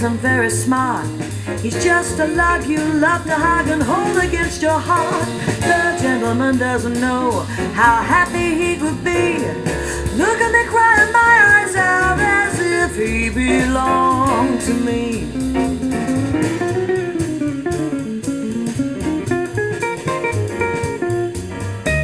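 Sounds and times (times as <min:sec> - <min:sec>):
jazz guitar over bass: 0:00.0 - 0:22.0.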